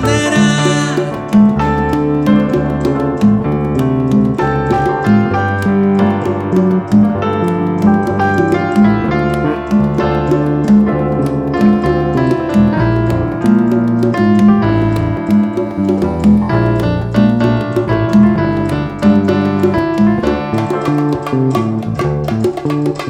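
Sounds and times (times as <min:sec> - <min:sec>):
bass line: 0:00.0 - 0:22.5
light percussion: 0:00.0 - 0:23.0
piano chords and melody: 0:00.0 - 0:23.0.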